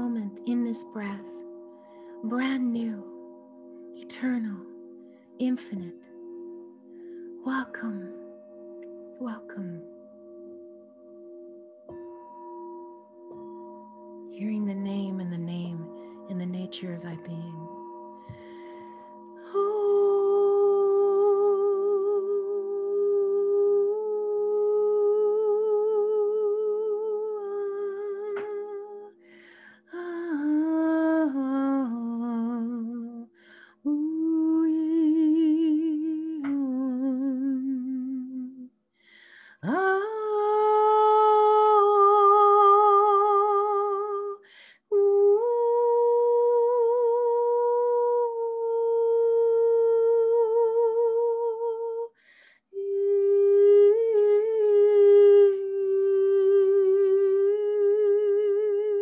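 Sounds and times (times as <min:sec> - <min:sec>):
woman singing wordless notes: 0:00.0 - 0:06.3, 0:07.4 - 0:08.4, 0:09.1 - 0:10.1, 0:14.3 - 0:38.7, 0:39.4 - 0:59.0.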